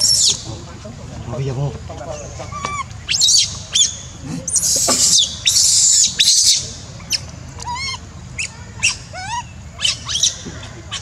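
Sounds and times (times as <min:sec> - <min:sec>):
infant monkey squealing and screaming: 0:00.0 - 0:00.4, 0:02.5 - 0:11.0.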